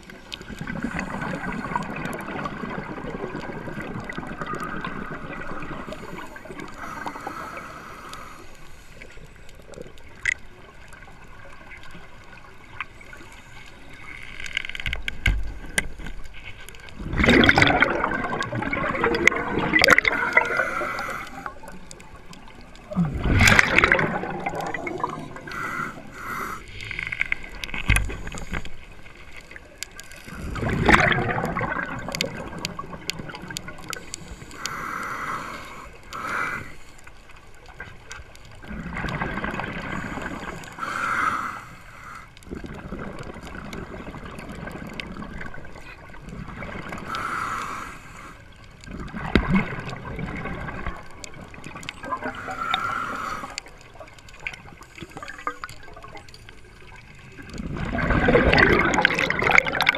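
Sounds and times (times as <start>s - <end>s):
water rushing and gurgling: 0.0s - 59.9s
water surges: 0.0s - 59.9s.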